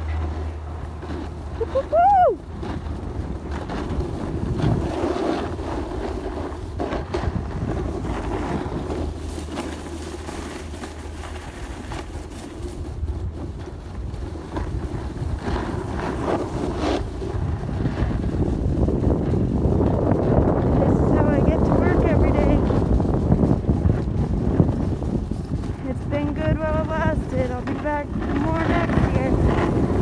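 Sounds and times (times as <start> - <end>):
snowboard scraping over snow: 0.0 - 30.0
wind buffeting microphone: 0.0 - 30.0.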